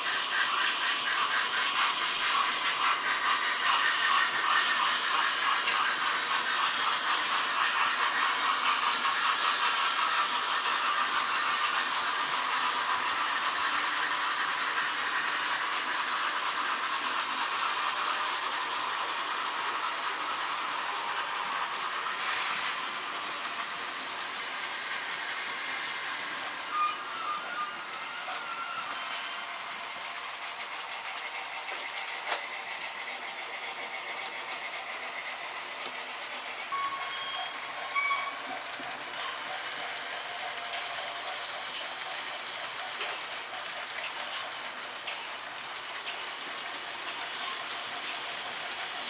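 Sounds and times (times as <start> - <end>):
model trains rattling on track: 0.0 - 49.0.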